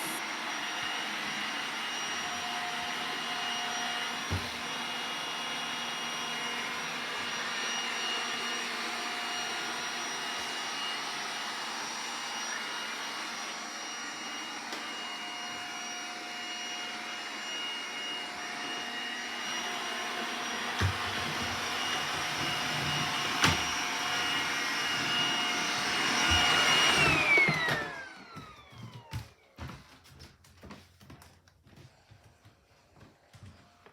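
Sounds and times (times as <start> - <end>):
robot vacuum motor humming: 0.0 - 28.7.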